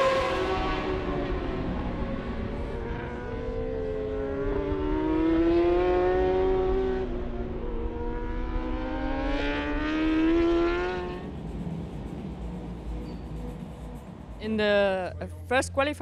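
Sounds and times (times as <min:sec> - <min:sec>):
superbike engines racing: 0:00.0 - 0:15.4.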